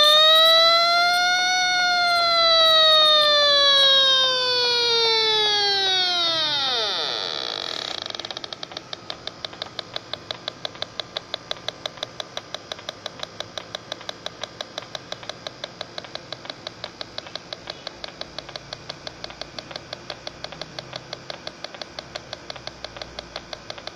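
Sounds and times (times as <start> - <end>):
leak detector beeping: 0.0 - 23.9.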